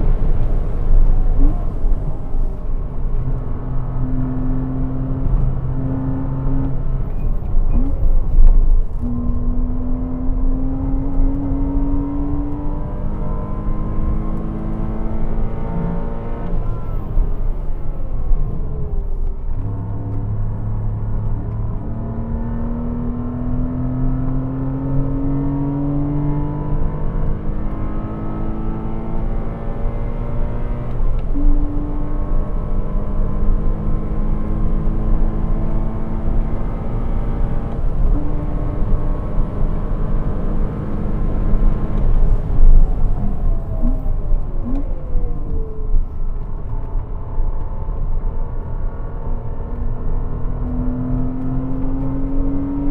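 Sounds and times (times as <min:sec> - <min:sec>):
car engine revving under load: 0:00.0 - 0:52.9.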